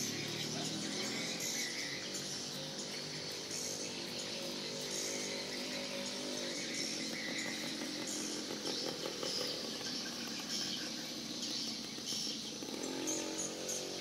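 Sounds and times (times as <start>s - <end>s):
buzzy twittering bird call: 0.0s - 14.0s.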